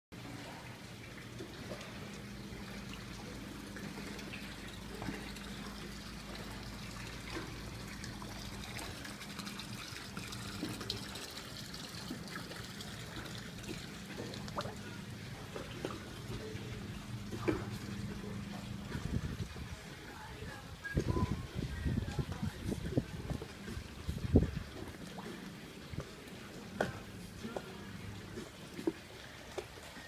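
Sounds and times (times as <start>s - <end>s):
water trickling and lapping: 0.2s - 30.0s
steady low hum: 0.3s - 30.0s
small clicks and splashes: 1.1s - 19.5s, 22.1s - 30.0s.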